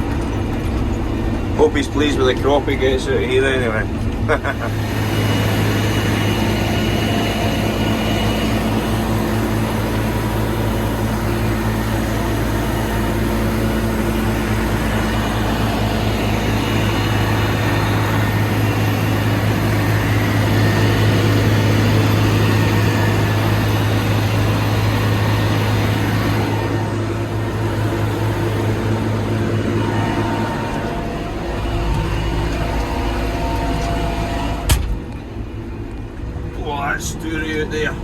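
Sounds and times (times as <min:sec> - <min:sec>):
mower engine drone: 0:00.0 - 0:38.0.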